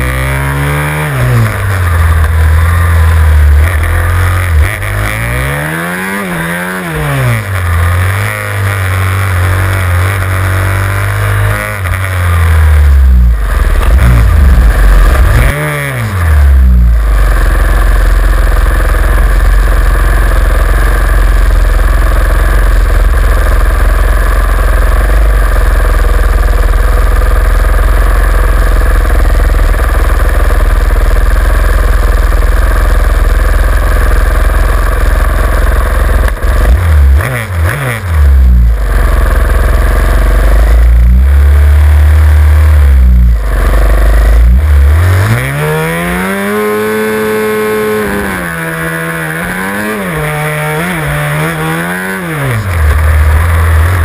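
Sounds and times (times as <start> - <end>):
motorcycle accelerating through gears: 0.0 - 54.0
motorcycle engines idling and revving: 0.0 - 54.0.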